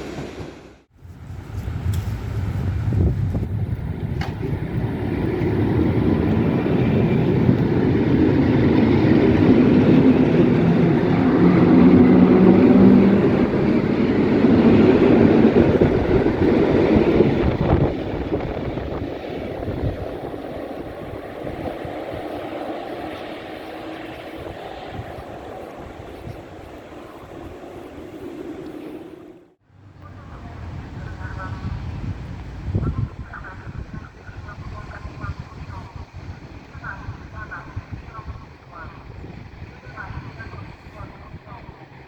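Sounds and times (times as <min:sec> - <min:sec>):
train rumbling past on rails: 0:00.0 - 0:42.0.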